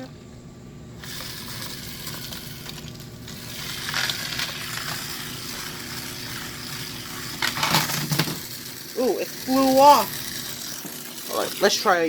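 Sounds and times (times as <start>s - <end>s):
toy train motor whirring: 1.0s - 12.0s
toy train wheel rattle: 1.0s - 12.0s.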